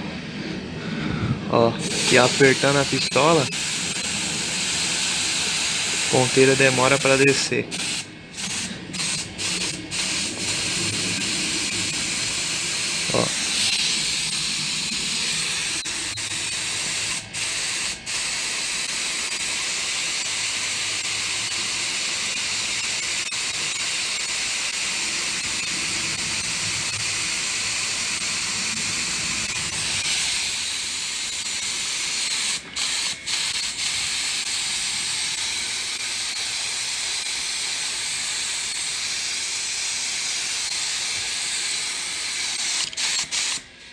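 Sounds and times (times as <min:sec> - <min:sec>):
compressed air hissing: 0:00.0 - 0:43.9.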